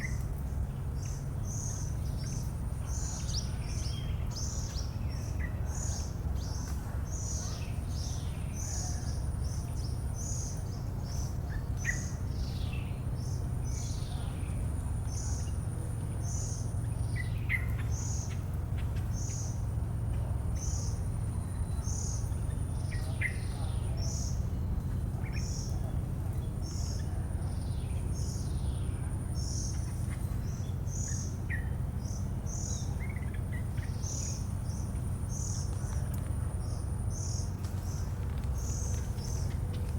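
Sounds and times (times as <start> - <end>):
birds chirping: 0.0 - 39.9
steady low rumble: 0.0 - 39.9.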